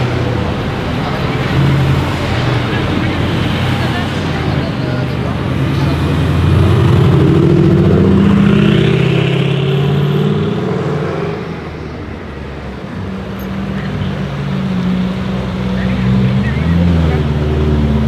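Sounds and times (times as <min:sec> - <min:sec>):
sports car approaching: 0:00.0 - 0:18.0
sports car passing and pulling away: 0:00.0 - 0:18.0.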